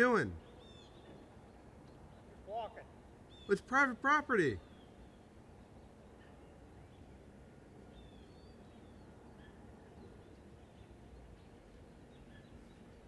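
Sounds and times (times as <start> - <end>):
faint high bird chirps: 0.1 - 13.0.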